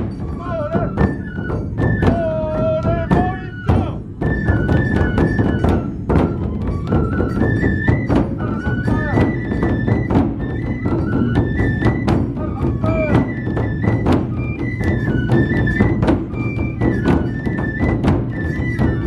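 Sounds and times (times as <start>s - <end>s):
high bamboo flute melody: 0.0s - 19.0s
large drums beating rapidly: 0.0s - 19.0s.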